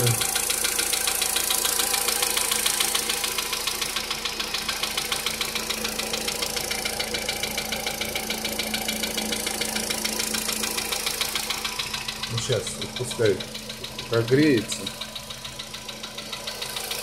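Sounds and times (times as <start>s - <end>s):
car engine idling: 0.0s - 17.0s
fast ticking engine knock: 0.0s - 17.0s.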